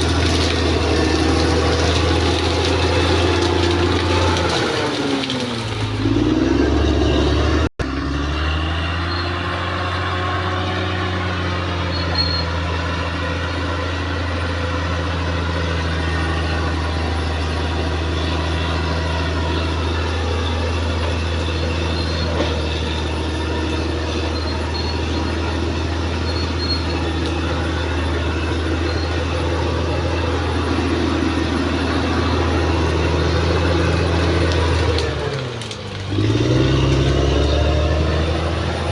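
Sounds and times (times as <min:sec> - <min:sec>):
bulldozer diesel engine droning: 0:00.0 - 0:38.9.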